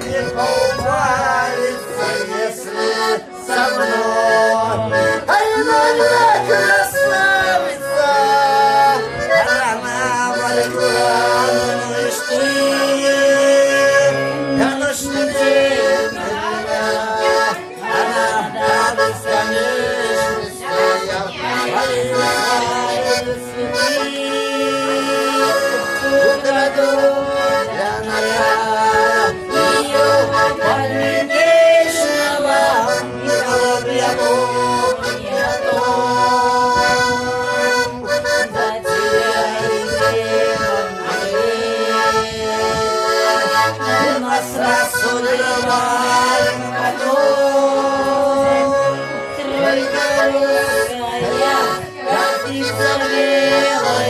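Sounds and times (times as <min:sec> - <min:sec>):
accordion tune: 0:00.0 - 0:54.0.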